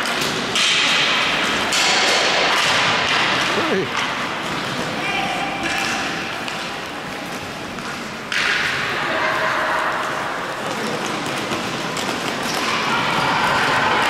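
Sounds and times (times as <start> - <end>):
hockey sticks and ball knocking: 0.0 - 5.0, 5.6 - 9.0, 10.0 - 14.0.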